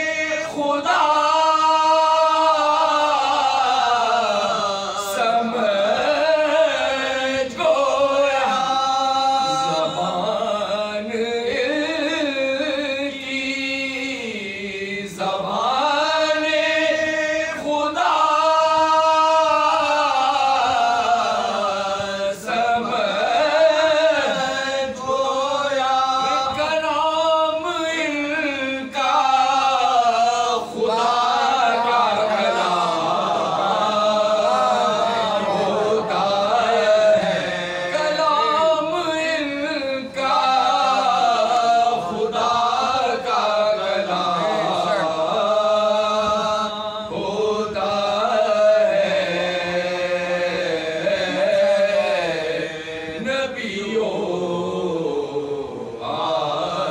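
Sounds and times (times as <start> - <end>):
amplified lead voice chanting: 0.0 - 56.9
men chanting together: 0.0 - 56.9.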